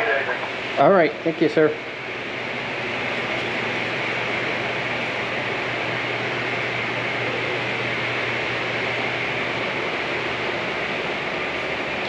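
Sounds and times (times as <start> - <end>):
low hum: 0.0 - 12.0
ventilation hiss: 0.0 - 12.0.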